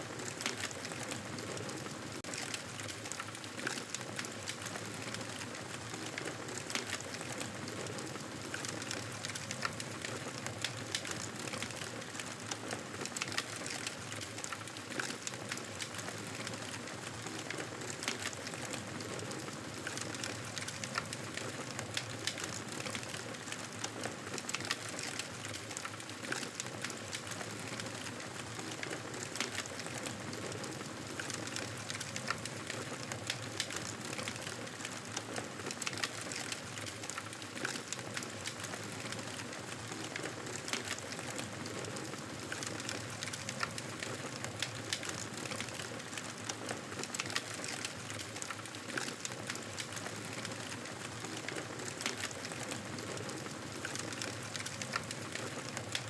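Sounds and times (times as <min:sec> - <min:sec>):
crackles and pops of burning wood: 0:00.2 - 0:01.3, 0:02.2 - 0:56.0.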